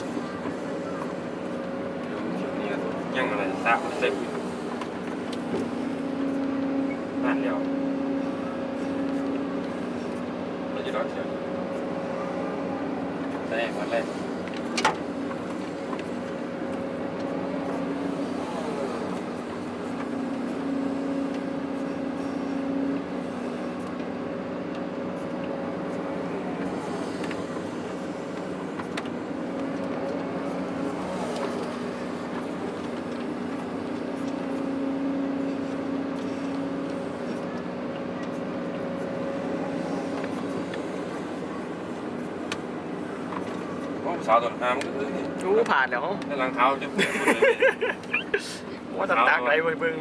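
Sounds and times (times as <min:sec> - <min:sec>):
heavy diesel engine droning: 0:00.0 - 0:50.0.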